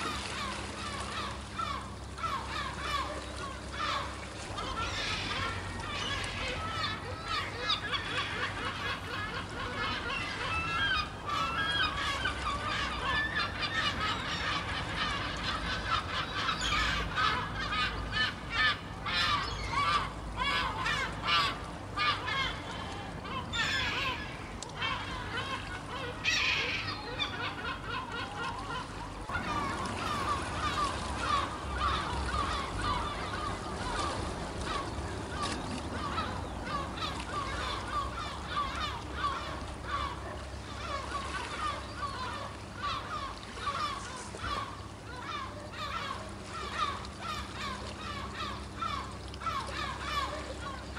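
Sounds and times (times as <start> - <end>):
gulls calling: 0.0 - 50.9.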